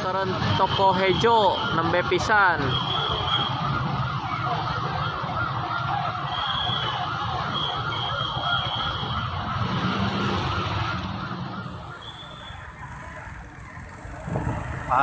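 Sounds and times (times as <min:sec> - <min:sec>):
emergency siren wavering: 0:00.0 - 0:15.0
motorbikes passing: 0:00.0 - 0:15.0
street traffic rumble: 0:00.0 - 0:15.0.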